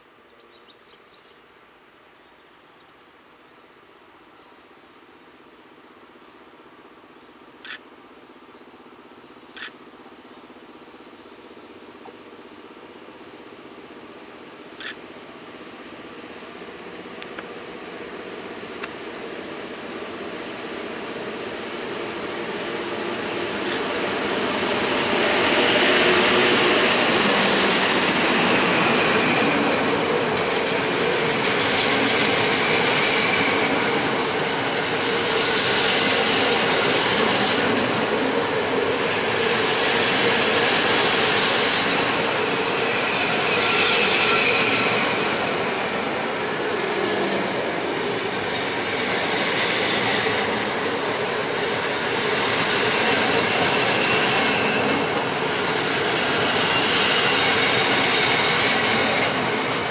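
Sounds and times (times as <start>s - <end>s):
train approaching: 3.6s - 59.9s
wheels rumbling on rail: 8.4s - 59.9s.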